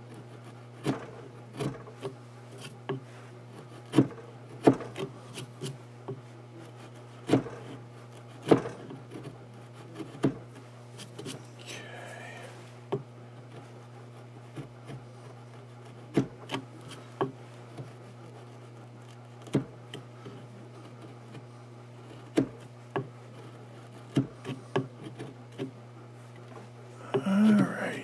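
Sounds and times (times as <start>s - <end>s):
chisel paring wood: 0.0s - 28.0s
steady low hum: 0.0s - 28.0s.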